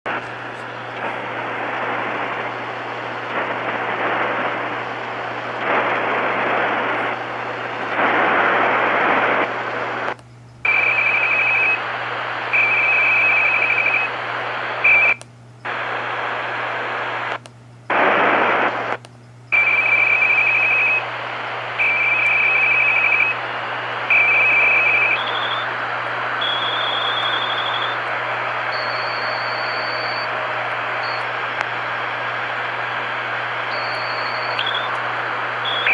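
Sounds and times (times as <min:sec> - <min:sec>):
radio static hiss: 0:00.1 - 0:35.9
steady low buzz: 0:00.1 - 0:35.9.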